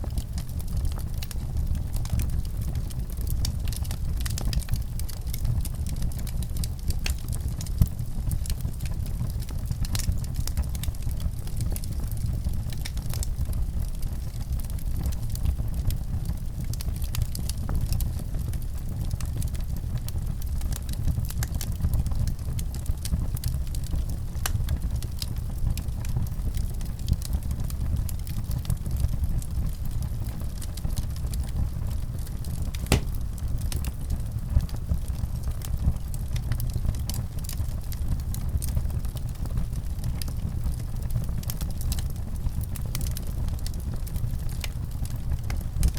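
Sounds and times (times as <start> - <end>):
fire crackles and pops: 0.0 - 45.9
fire rumbling: 0.0 - 45.9.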